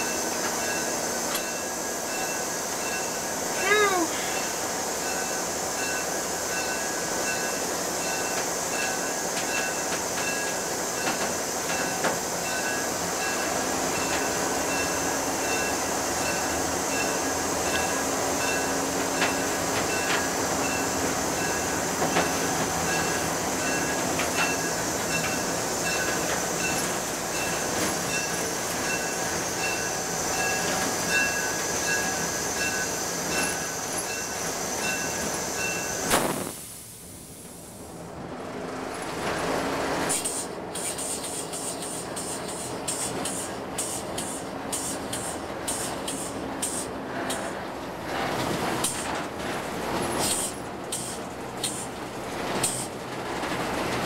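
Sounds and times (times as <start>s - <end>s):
rail clicks: 0.0s - 36.4s, 38.5s - 54.0s
locomotive engine and wheels: 0.0s - 54.0s.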